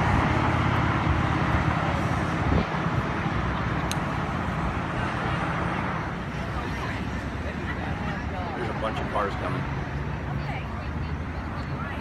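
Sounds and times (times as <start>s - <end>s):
cars passing on road: 0.0s - 12.0s.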